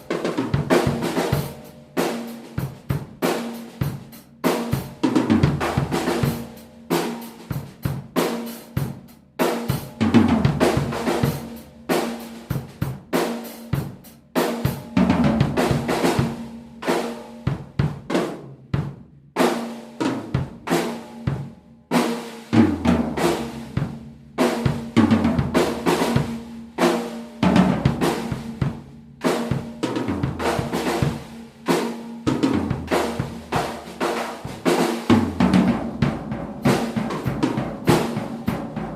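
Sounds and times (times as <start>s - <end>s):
acoustic drum kit playing: 0.0s - 38.9s.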